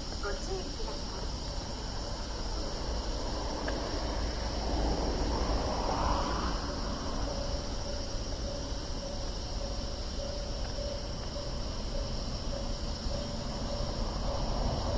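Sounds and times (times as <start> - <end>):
train rumbling into station: 0.0 - 14.9.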